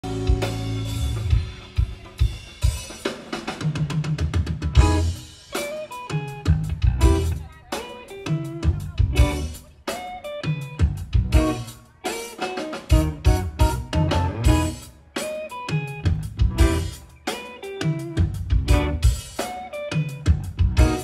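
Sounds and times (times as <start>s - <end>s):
electric guitar lines: 0.0s - 3.0s, 4.6s - 21.0s
live rock band: 0.0s - 21.0s.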